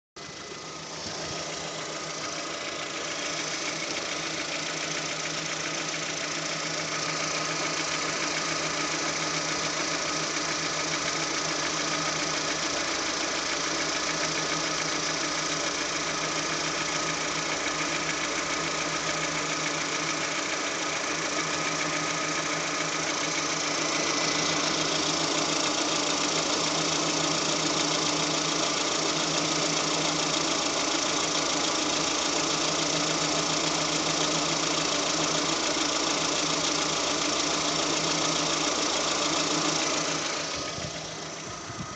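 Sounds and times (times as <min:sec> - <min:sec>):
car engine idling: 0:00.2 - 0:41.9.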